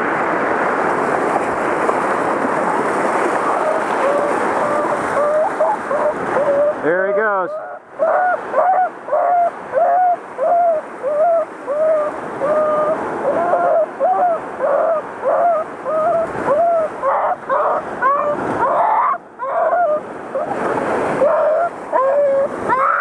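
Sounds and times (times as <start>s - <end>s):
surf washing and splashing: 0.0s - 23.0s
dog whining yelps: 3.6s - 20.5s, 21.2s - 23.0s.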